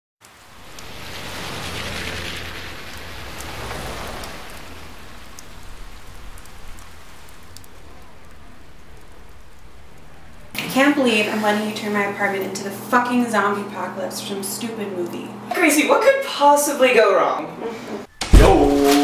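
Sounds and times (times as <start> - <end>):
drips ticking: 0.2 - 16.0
rain hissing: 0.2 - 16.2.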